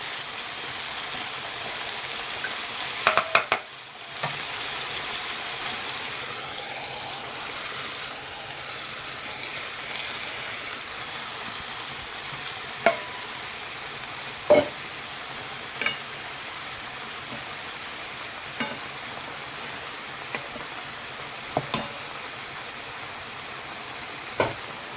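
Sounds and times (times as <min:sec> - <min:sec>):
fish sizzling in a pan: 0:00.0 - 0:24.9.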